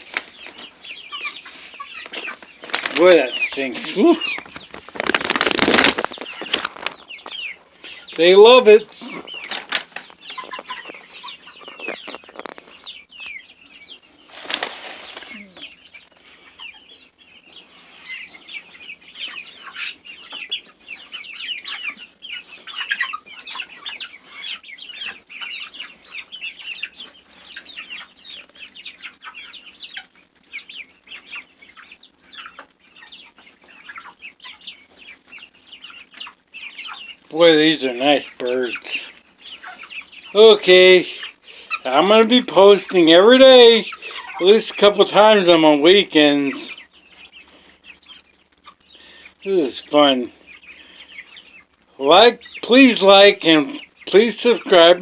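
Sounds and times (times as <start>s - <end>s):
chicken squawk: 0.0s - 40.4s, 41.0s - 51.8s
chicks peeping: 0.0s - 55.0s.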